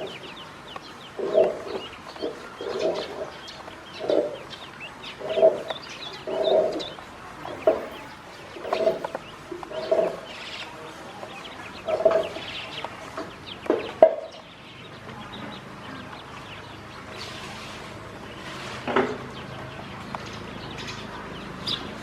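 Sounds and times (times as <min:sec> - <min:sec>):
poultry clucking: 0:00.0 - 0:22.0.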